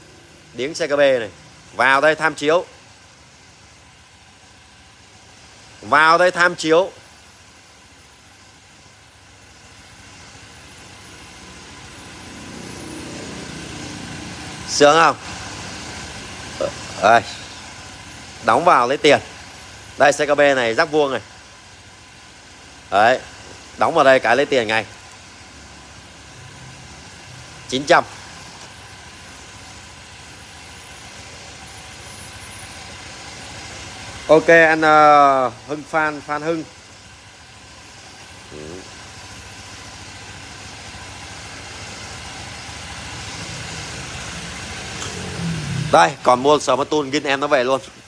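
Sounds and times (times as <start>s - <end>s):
scooter engine idling: 0.0s - 48.0s
steady hum: 0.0s - 48.0s.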